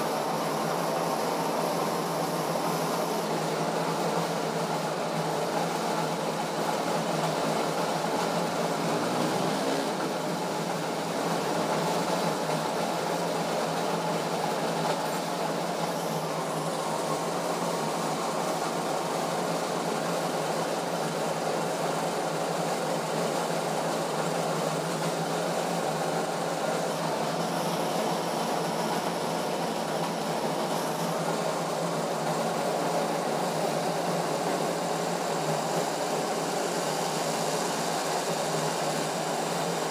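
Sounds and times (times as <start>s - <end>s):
test bench machine running: 0.0s - 39.9s.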